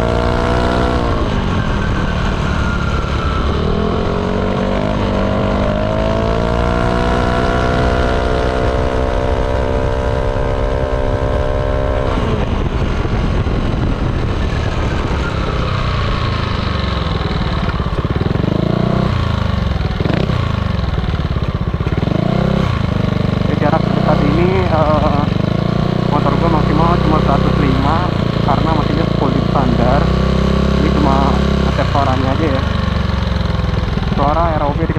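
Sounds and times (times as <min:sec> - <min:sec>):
rushing riding noise: 0:00.0 - 0:34.9
scooter engine under throttle: 0:00.0 - 0:34.9.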